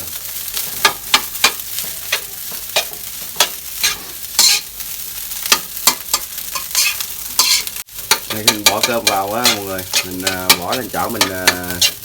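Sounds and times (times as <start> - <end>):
rice sizzling in a pan: 0.0 - 12.0
spatula scraping and knocking pan: 0.6 - 4.8, 5.4 - 12.0.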